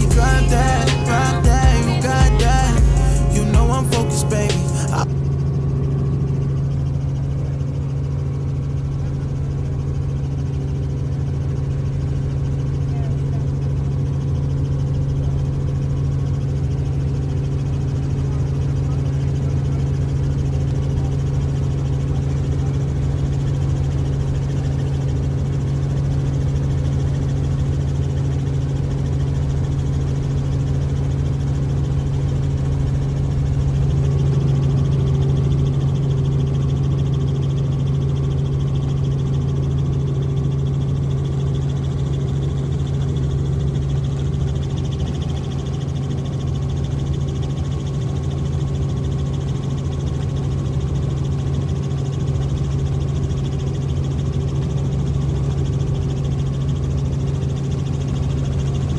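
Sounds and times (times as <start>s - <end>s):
helicopter rotor drone: 0.0s - 58.9s.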